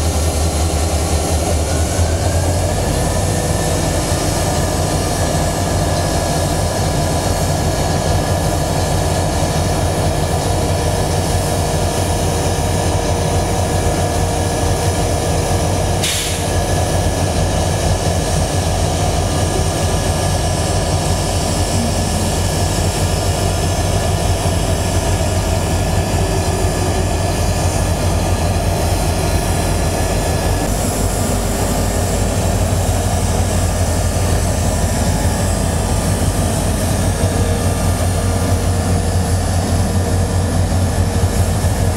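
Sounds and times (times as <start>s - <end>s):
diesel locomotive rumble: 0.0s - 41.9s.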